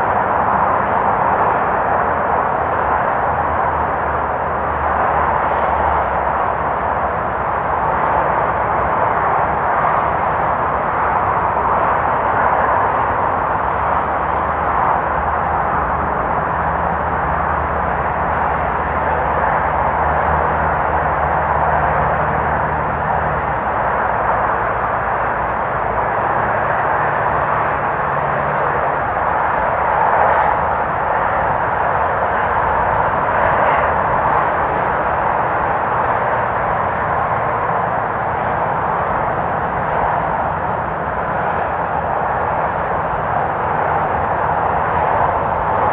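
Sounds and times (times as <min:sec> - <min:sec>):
distant freeway traffic: 0:00.0 - 0:45.9.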